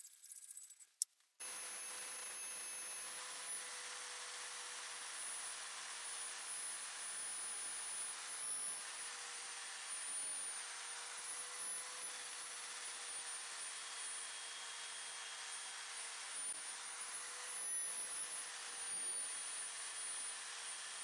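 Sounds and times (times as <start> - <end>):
electric drill motor whine: 1.4 - 21.0.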